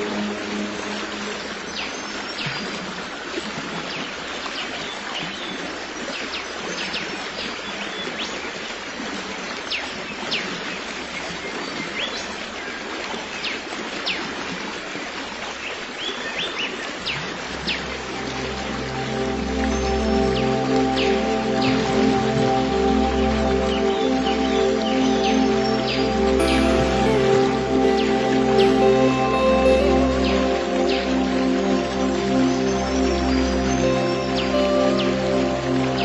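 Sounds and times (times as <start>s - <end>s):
stream water flowing: 0.0s - 36.0s.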